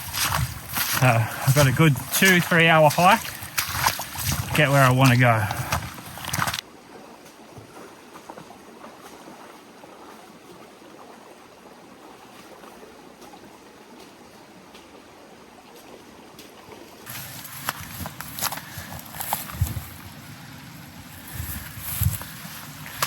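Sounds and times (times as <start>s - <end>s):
creek water rushing and trickling: 0.0s - 23.0s.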